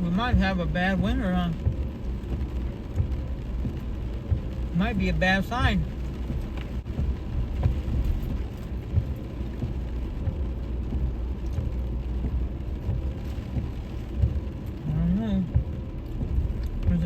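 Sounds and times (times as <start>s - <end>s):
light rain ticking: 0.0s - 17.0s
truck engine rumbling: 0.0s - 17.0s.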